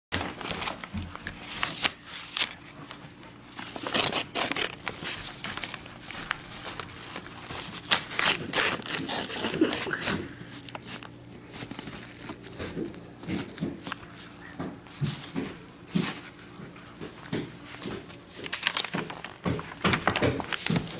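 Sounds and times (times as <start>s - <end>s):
dog chewing and tearing paper: 0.2s - 16.8s, 17.6s - 20.9s.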